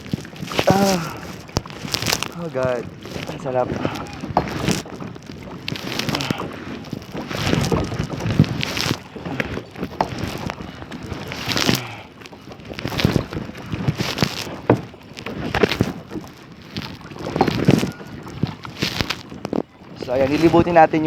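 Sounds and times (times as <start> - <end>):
paddle splashing in water: 0.0 - 21.0
wind noise on microphone: 0.0 - 21.0.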